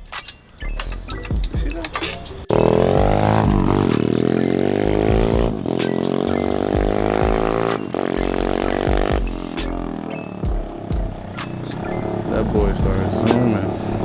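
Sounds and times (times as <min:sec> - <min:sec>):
motorbike engine running hard: 0:01.4 - 0:14.0.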